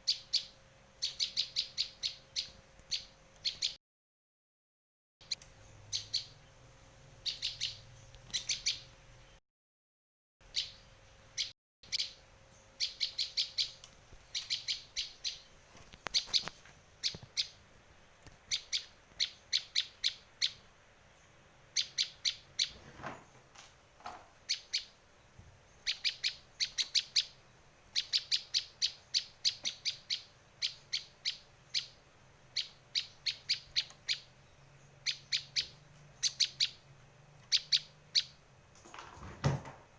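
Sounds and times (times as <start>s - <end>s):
bird chirping rapidly: 0.0s - 3.8s, 5.2s - 9.4s, 10.4s - 17.6s, 18.4s - 22.8s, 24.3s - 38.4s.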